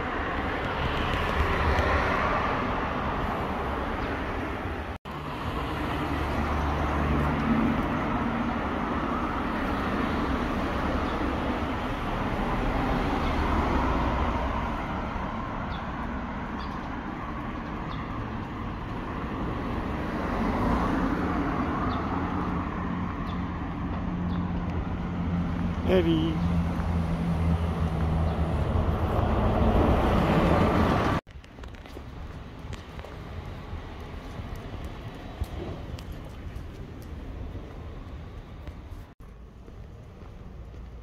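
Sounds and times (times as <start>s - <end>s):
cars passing: 0.0s - 41.0s.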